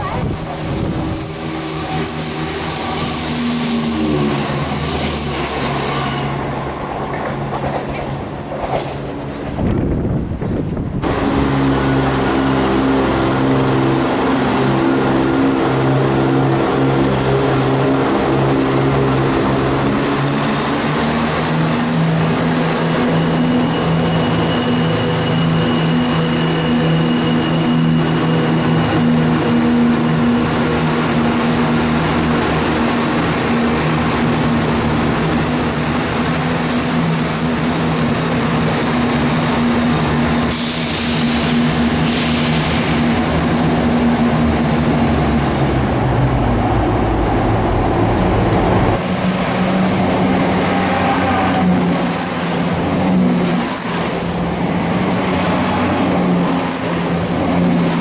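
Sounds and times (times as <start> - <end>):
diesel train engines droning: 0.0 - 58.0
high engine whine: 9.7 - 58.0.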